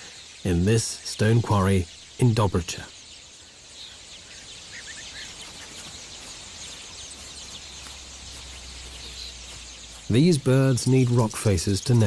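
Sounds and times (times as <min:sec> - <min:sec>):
starlings chattering: 0:00.0 - 0:12.0.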